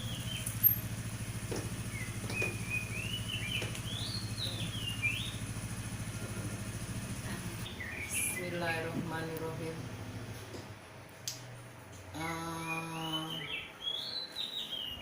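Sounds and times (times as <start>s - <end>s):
small birds chirping: 0.0s - 10.4s, 11.8s - 15.0s
steady low hum: 0.0s - 14.4s.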